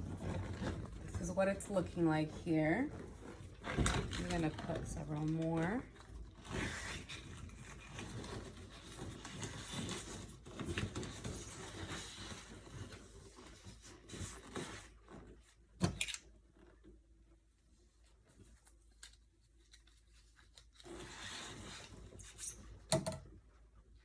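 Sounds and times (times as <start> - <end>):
balloons rubbing and scraping: 0.0 - 15.8, 17.8 - 22.9.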